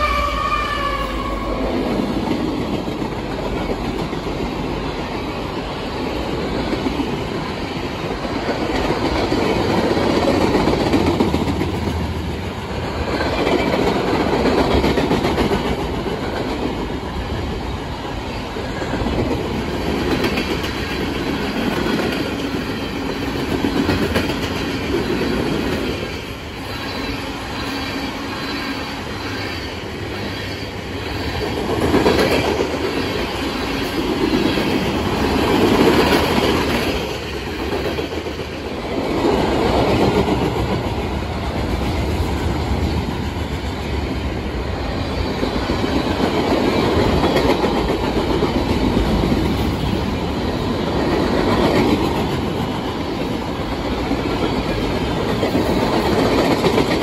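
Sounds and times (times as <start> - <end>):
freight train wheels rumbling on rail: 0.0 - 57.0
clickety-clack over rail joints: 0.3 - 28.0, 29.1 - 57.0.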